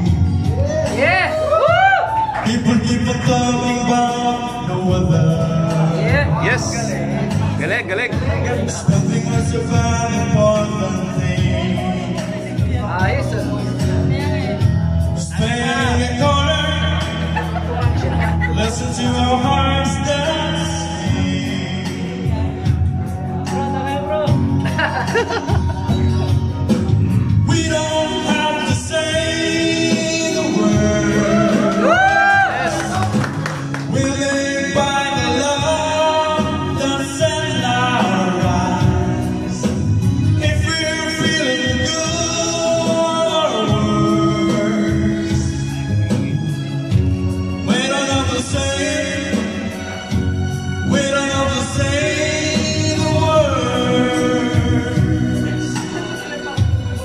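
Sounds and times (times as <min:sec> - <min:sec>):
man singing into microphone: 0:00.0 - 0:46.8, 0:47.6 - 0:57.0
backing music: 0:00.0 - 0:57.0.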